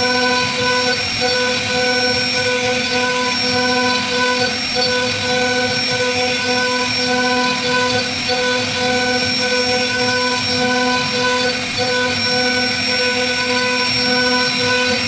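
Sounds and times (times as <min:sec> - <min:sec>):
bit cutting wood: 0:00.0 - 0:15.0
router spindle whine: 0:00.0 - 0:15.0.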